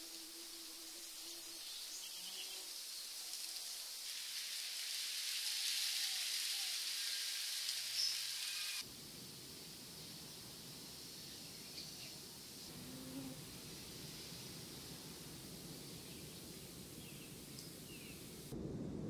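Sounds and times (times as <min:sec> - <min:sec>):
steady high hiss: 0:00.0 - 0:18.9.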